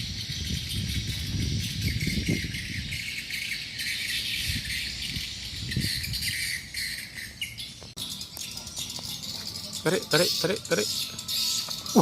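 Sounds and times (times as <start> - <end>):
bird chirps: 0.0 - 12.0
insects chirping: 0.0 - 12.0.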